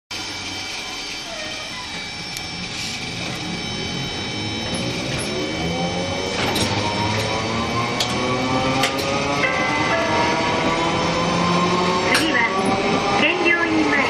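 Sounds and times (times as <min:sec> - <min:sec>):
tram motors whining: 0:00.1 - 0:14.0.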